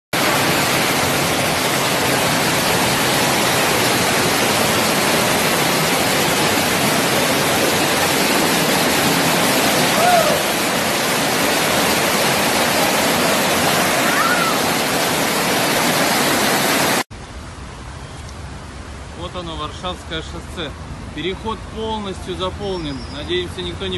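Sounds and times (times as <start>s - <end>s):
rushing floodwater: 0.2s - 17.1s, 18.4s - 23.9s.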